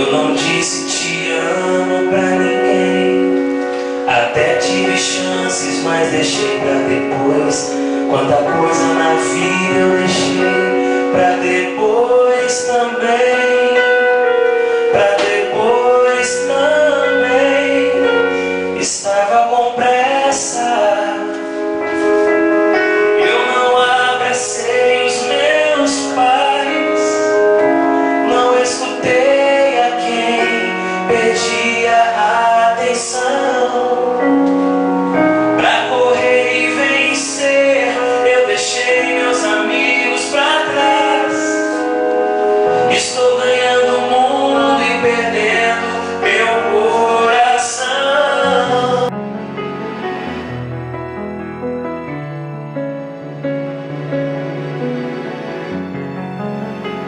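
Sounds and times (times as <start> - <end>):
person singing: 0.0 - 50.4
keyboard: 0.0 - 57.0.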